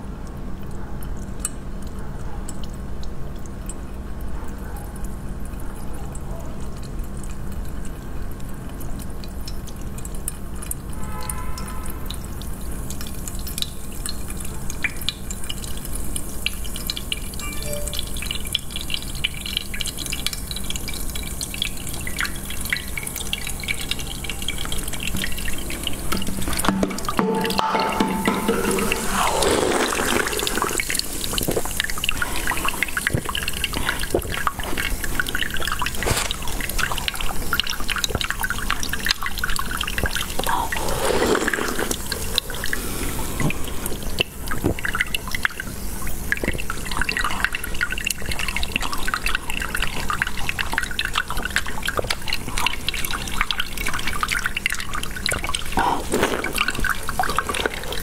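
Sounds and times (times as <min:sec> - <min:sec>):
syrupy liquid dripping and splattering: 0:00.6 - 0:17.6, 0:18.2 - 0:27.4, 0:28.4 - 0:58.0.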